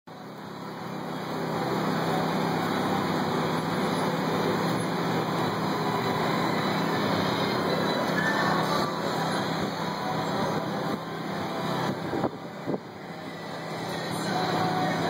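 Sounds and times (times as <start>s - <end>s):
car engine low drone: 0.1s - 15.0s.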